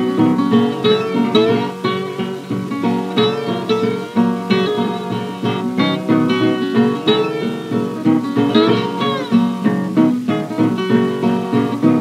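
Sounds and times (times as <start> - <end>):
acoustic guitar picking blues: 0.0 - 12.0.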